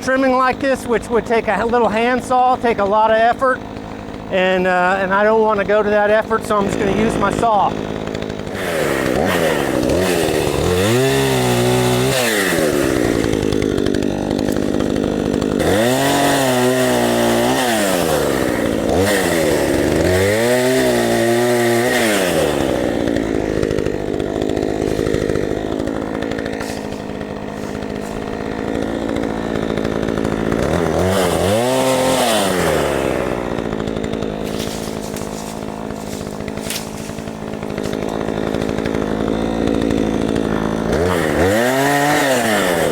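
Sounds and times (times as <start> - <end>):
chainsaw revving and idling: 0.0 - 42.9.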